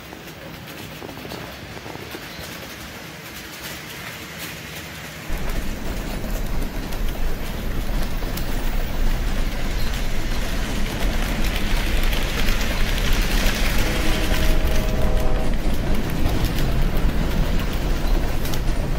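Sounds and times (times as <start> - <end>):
model train wheels rattling: 2.4 - 18.9.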